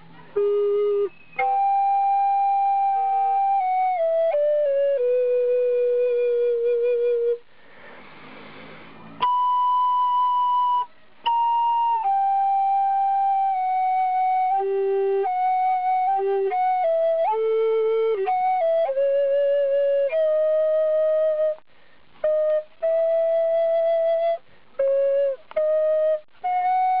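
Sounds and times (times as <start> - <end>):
solo flute melody: 0.0 - 7.4, 9.2 - 21.6, 22.2 - 27.0.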